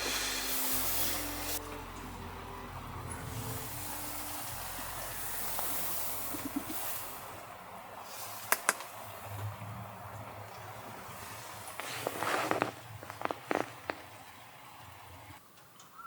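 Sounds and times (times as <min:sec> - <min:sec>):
rain hissing: 0:00.0 - 0:15.4
wind: 0:00.0 - 0:16.0.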